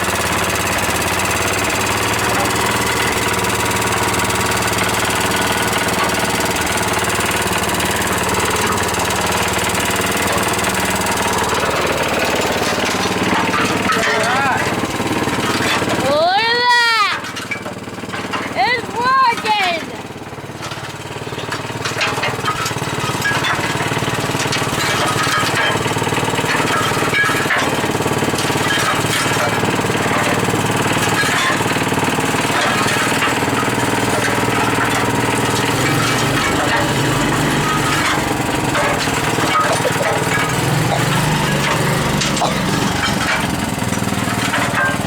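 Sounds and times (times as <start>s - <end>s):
small gasoline engine running: 0.0s - 45.0s.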